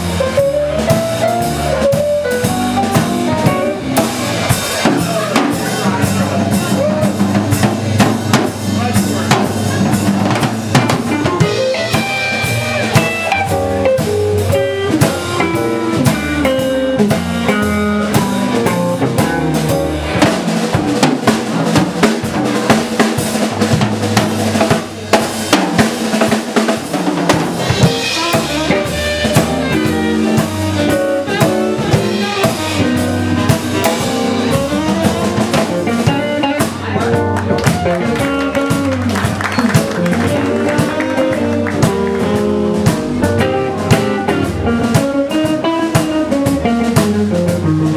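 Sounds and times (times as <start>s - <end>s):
drum kit: 0.0s - 47.9s
live band playing: 0.0s - 47.9s.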